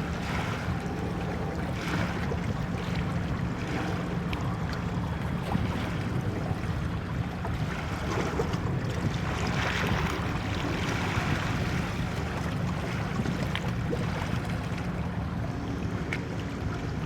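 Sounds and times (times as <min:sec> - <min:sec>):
sea water noise: 0:00.0 - 0:17.0
wind: 0:00.0 - 0:17.0
wind rumbling on microphone: 0:00.0 - 0:17.0.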